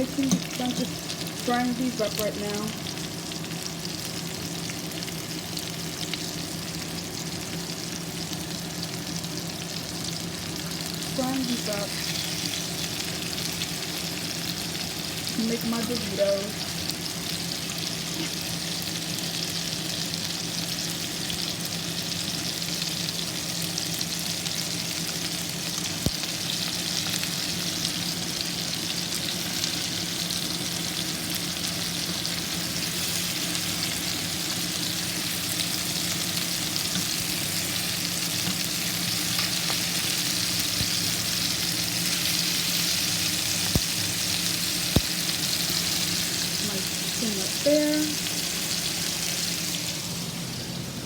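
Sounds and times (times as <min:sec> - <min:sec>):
chicken sizzling in a pan: 0:00.0 - 0:51.0.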